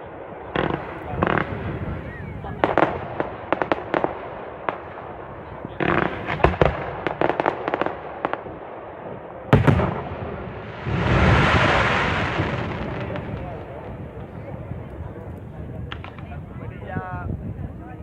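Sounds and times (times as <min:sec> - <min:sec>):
hissing crackle of fireworks: 0:00.0 - 0:16.7
fireworks cracks and bangs: 0:00.5 - 0:16.7.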